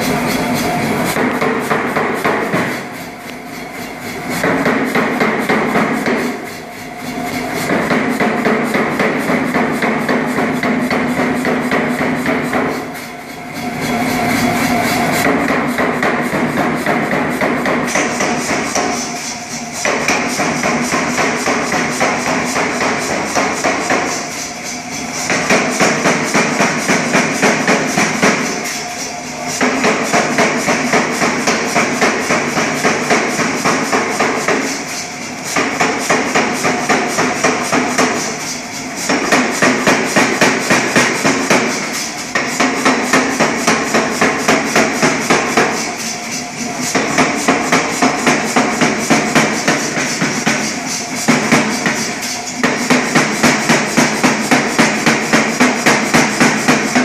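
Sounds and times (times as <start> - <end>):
air hammer striking metal: 0.0 - 57.0.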